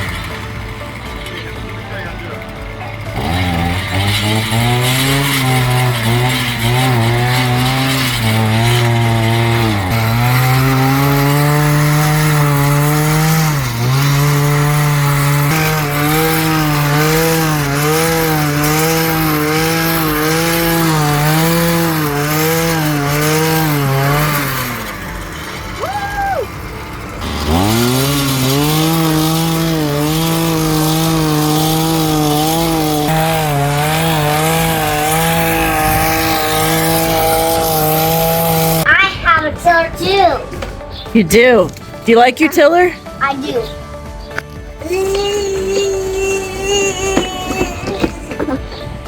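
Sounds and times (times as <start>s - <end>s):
garden tiller engine running: 0.0s - 49.0s.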